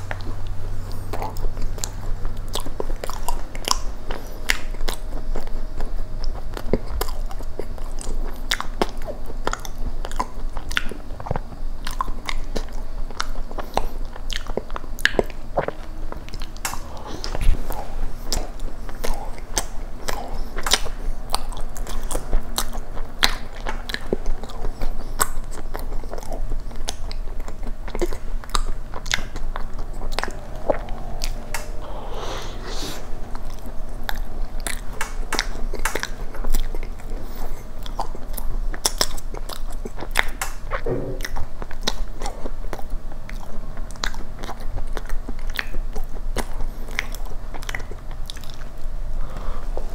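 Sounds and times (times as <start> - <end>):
chewing with mouth clicks: 0.0 - 31.8, 33.0 - 49.9.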